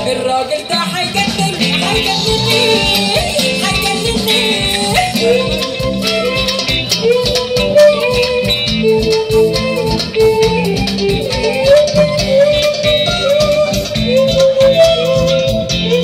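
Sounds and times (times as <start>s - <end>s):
live band instrumental pop: 0.0s - 16.0s.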